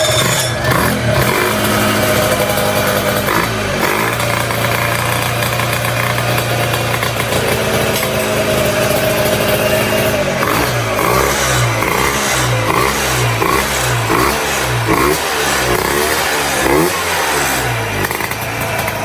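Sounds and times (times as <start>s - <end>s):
scooter two-stroke engine running: 0.0s - 19.0s.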